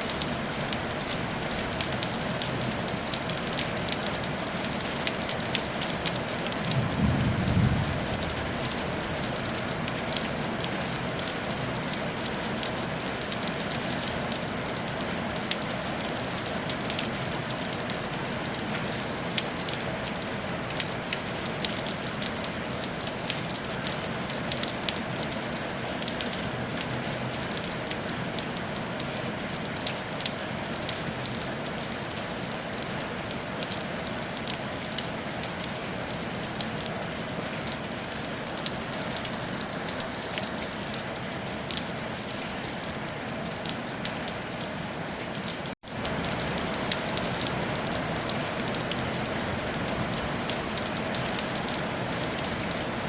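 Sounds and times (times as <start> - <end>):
rain on a tile roof: 0.0 - 53.0.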